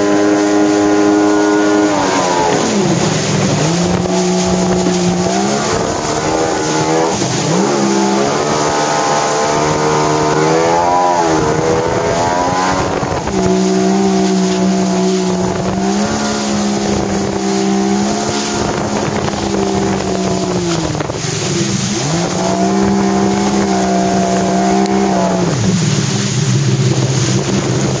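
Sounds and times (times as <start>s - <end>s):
jet ski engine revving: 0.0s - 28.0s.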